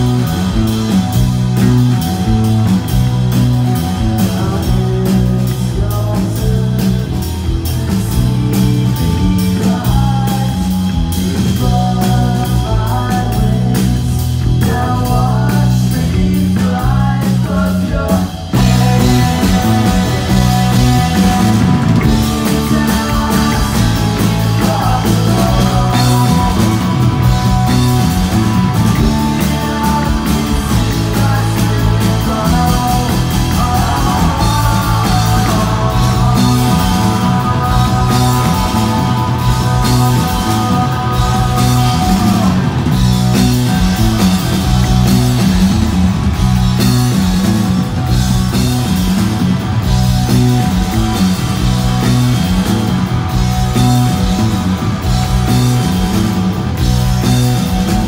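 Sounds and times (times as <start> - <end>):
rock band playing distorted guitars: 0.0 - 58.0.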